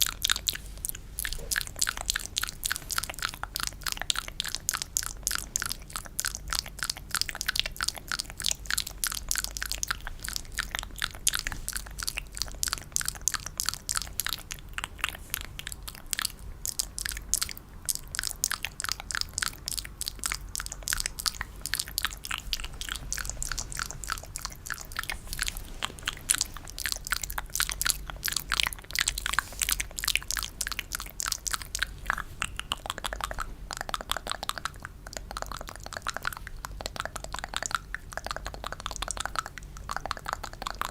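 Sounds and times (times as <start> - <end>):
wet mouth clicks and smacks: 0.0 - 40.9.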